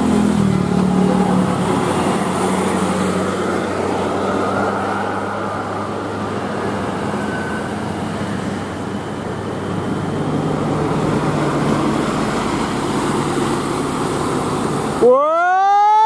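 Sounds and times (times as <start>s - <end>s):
bus engine running: 0.0s - 15.2s
road traffic noise: 0.0s - 16.0s.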